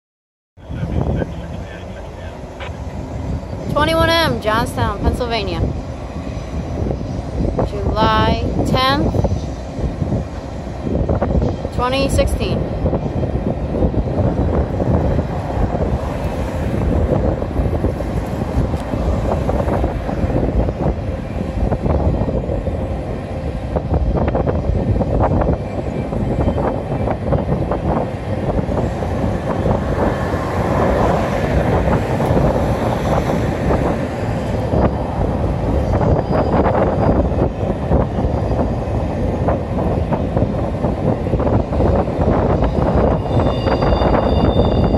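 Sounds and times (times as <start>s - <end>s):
freight train rumbling on rails: 0.6s - 44.9s
train clanks: 0.6s - 44.9s.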